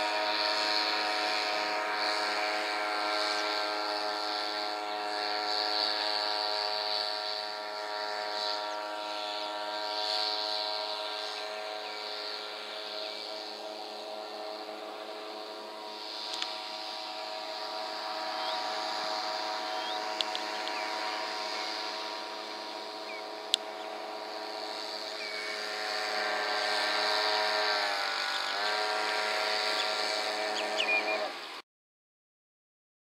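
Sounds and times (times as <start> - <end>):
outboard motor running: 0.0 - 31.6.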